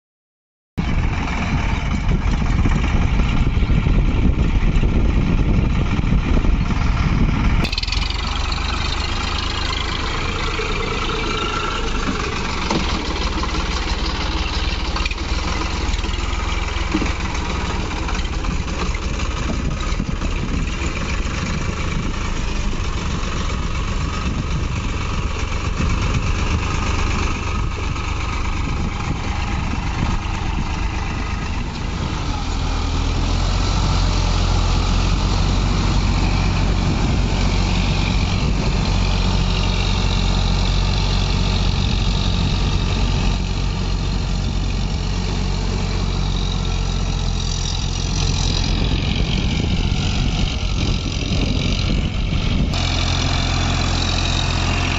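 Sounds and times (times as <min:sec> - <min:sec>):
tractor diesel engine running: 0:00.8 - 0:54.9.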